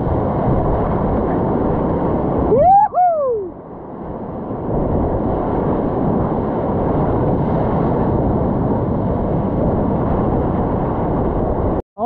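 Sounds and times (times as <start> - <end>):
muffled rush of surf: 0.0 - 11.8.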